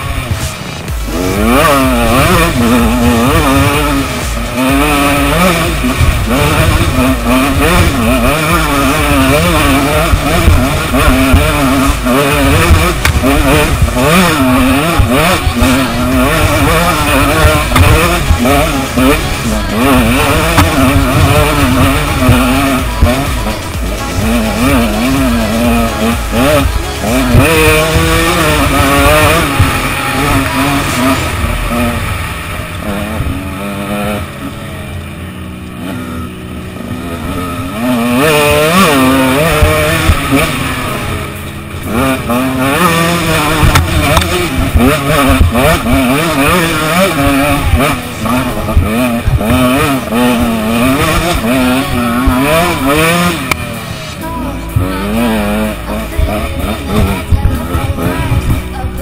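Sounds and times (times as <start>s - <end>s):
two-stroke motorcycle engine revving: 0.0s - 59.0s.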